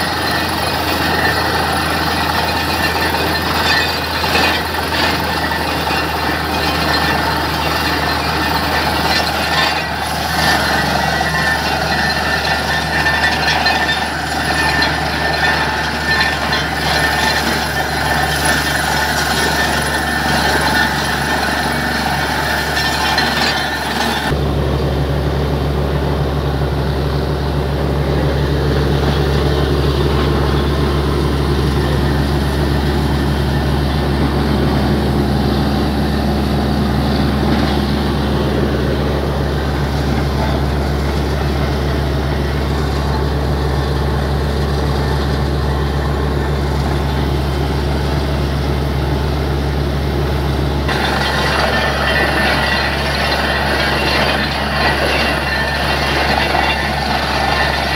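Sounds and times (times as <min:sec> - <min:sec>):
water and slurry rushing: 0:00.0 - 0:24.7, 0:27.4 - 0:57.9
air compressor engine running: 0:00.0 - 0:57.9.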